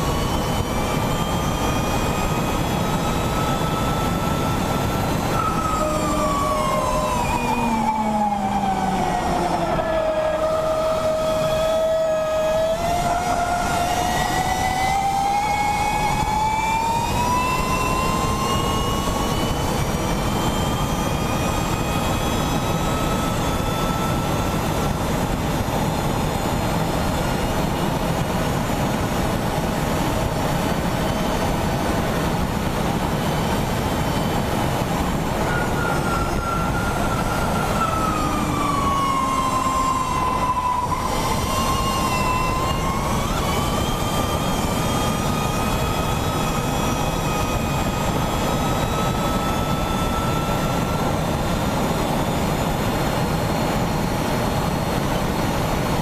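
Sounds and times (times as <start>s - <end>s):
electric motor whine: 0.0s - 29.6s, 33.0s - 52.8s
wind and road rush: 0.0s - 56.0s.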